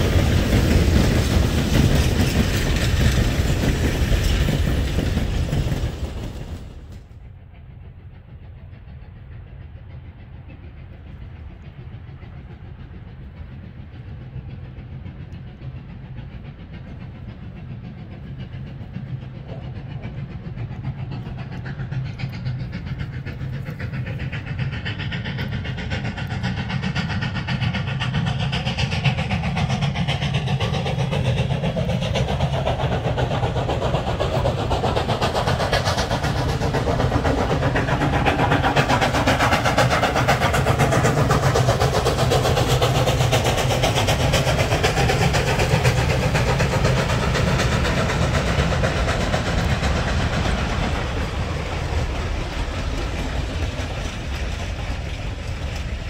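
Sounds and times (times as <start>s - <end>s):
steam train running: 0.0s - 56.0s.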